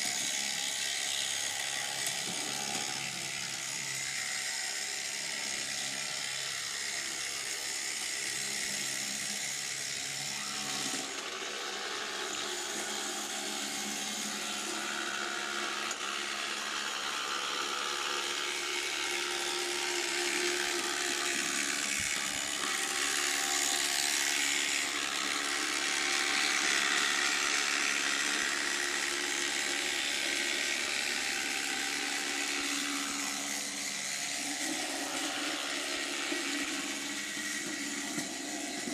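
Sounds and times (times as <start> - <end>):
small electric motor whirring: 0.0 - 38.9.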